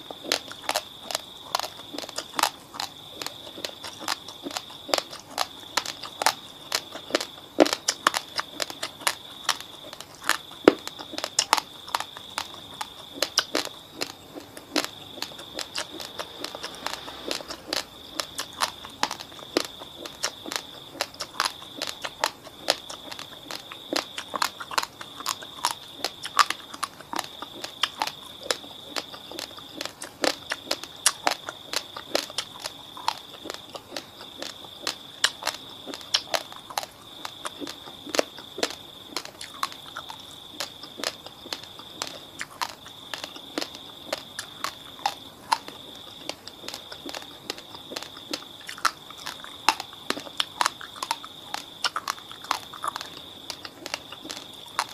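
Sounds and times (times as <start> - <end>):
crunching and chewing rice: 0.0 - 54.9.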